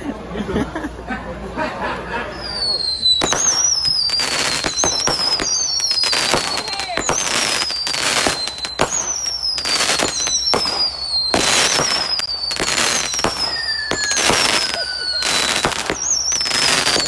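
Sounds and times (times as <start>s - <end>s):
fireworks whistling: 2.2s - 17.0s
fireworks bangs and crackle: 2.3s - 17.0s.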